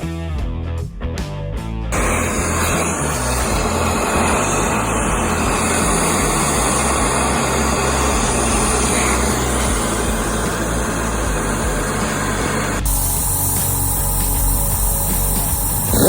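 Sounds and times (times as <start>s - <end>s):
truck engine running: 1.9s - 16.0s.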